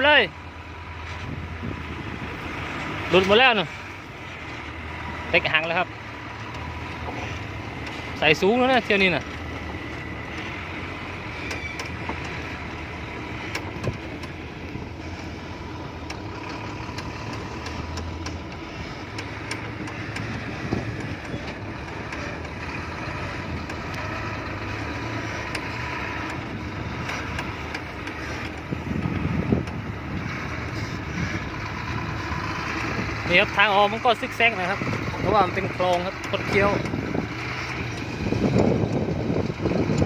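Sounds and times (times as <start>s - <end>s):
truck diesel engine running: 0.0s - 40.0s
rattling: 0.9s - 40.0s.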